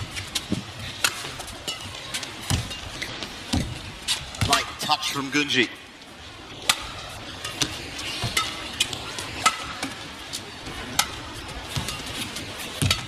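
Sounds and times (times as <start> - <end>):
rackets striking shuttlecock: 0.0 - 4.9, 6.6 - 10.1, 10.8 - 13.0.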